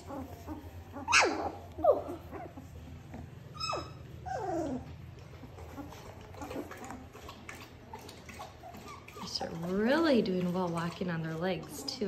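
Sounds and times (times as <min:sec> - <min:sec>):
puppies whimpering: 0:00.0 - 0:12.0.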